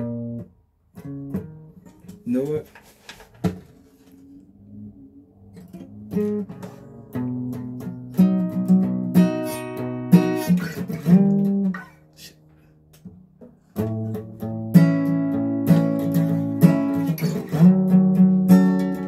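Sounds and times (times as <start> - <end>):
guitar strumming chords: 0.0 - 2.6, 3.7 - 19.0.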